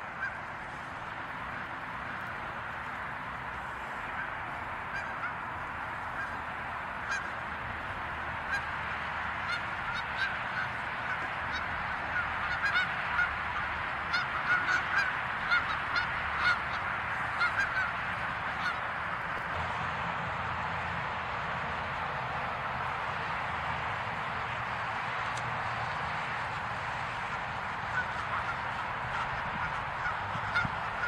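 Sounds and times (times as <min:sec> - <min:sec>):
geese honking: 0:00.0 - 0:19.4, 0:24.2 - 0:31.0.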